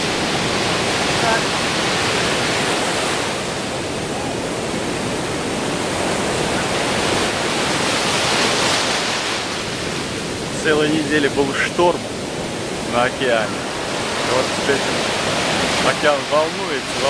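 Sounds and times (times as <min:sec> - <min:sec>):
rough ocean surf breaking: 0:00.0 - 0:17.0.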